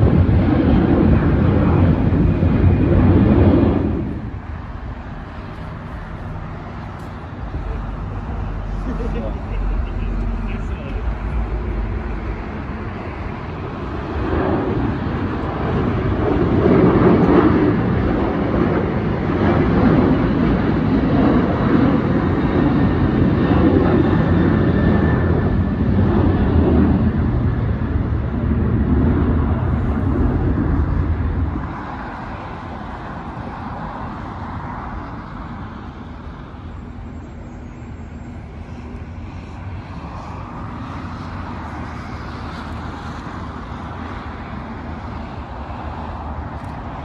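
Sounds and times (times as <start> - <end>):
airport rumble: 0.0 - 47.0
jet engines rumbling: 0.0 - 47.0.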